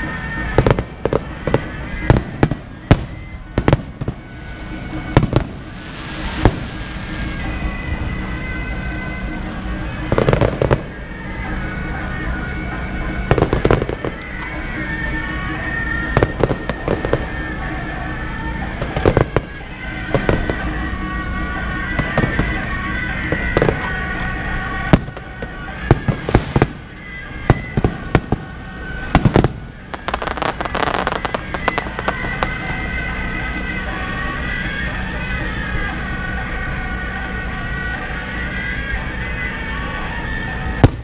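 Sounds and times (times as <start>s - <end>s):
fireworks and firecrackers banging: 0.0s - 41.0s.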